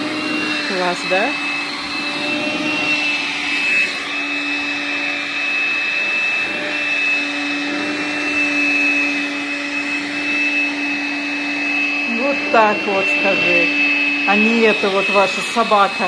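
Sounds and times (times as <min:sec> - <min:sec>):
stick vacuum whining: 0:00.0 - 0:16.0.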